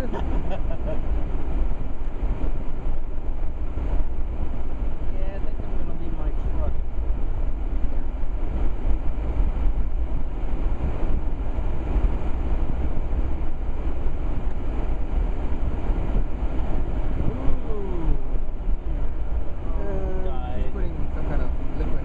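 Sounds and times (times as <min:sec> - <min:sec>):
vehicle road and engine rumble: 0:00.0 - 0:22.0.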